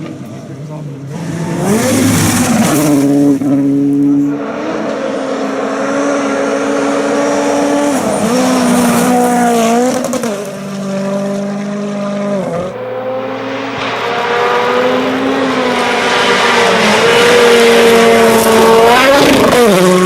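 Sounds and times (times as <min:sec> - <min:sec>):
racing engine at high revs: 0:00.0 - 0:20.0.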